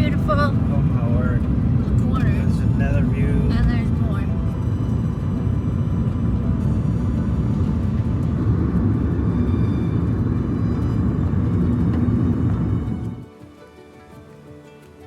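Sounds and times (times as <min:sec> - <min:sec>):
car engine: 0:00.0 - 0:13.3
road and tyre noise: 0:00.0 - 0:15.0.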